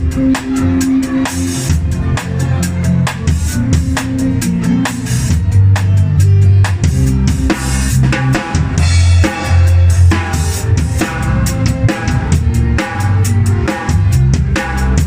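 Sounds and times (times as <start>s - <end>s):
bass notes: 0.0s - 15.0s.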